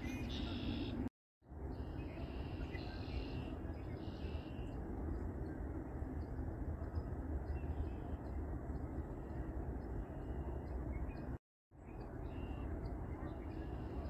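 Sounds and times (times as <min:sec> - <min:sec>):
faint high bird chirps: 0:00.0 - 0:01.1, 0:01.7 - 0:04.8, 0:06.8 - 0:14.0
steady low rumble: 0:00.0 - 0:14.0.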